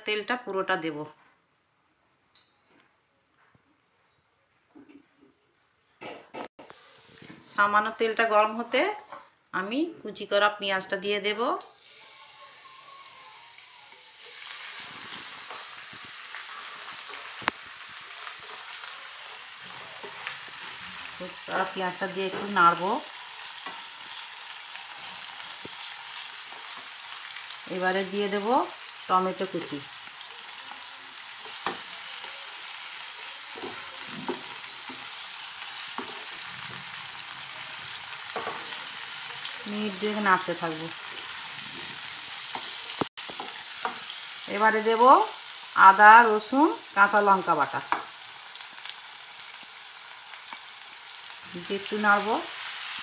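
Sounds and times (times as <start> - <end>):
onions sizzling in oil: 6.6 - 8.8, 10.2 - 53.0.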